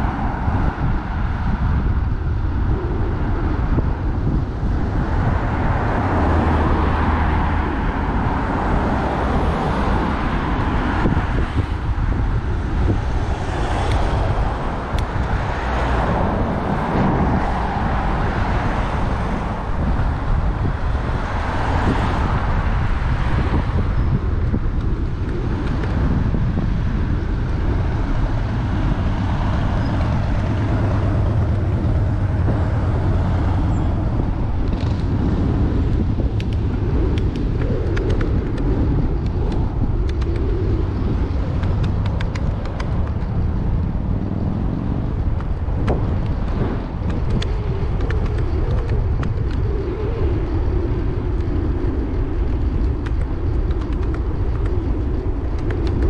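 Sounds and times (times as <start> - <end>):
road traffic noise: 0.0 - 56.0
wind rumbling on microphone: 0.0 - 56.0.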